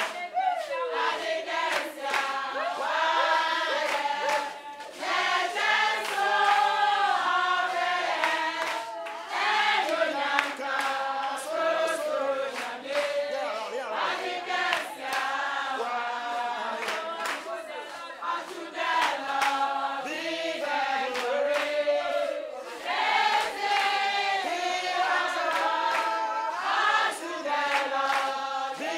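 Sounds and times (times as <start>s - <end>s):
hand claps: 0.0s - 28.9s
women singing together: 0.0s - 28.9s.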